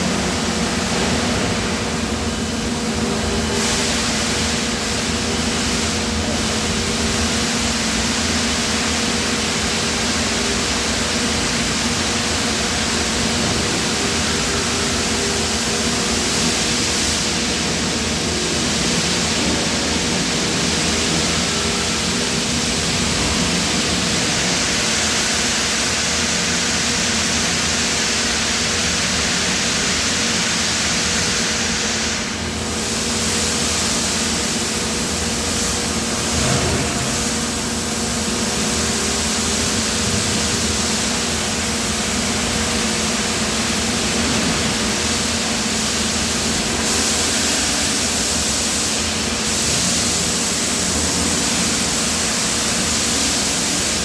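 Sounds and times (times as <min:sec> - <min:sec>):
machinery hiss: 0:00.0 - 0:54.0
machinery low hum: 0:00.0 - 0:54.0.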